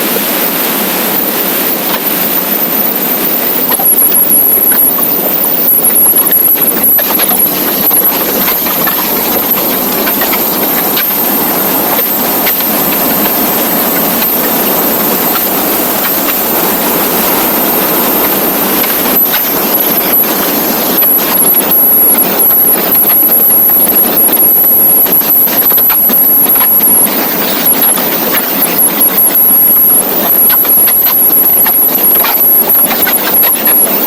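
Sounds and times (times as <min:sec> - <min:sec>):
wind rush on motorcycle: 0:00.0 - 0:34.0.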